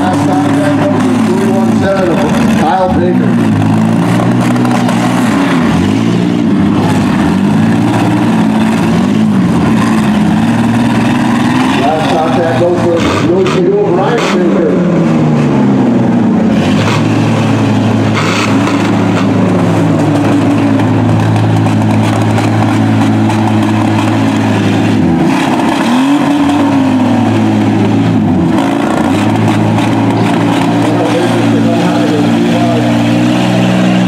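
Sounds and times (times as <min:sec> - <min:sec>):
van engines revving hard: 0:00.0 - 0:34.0.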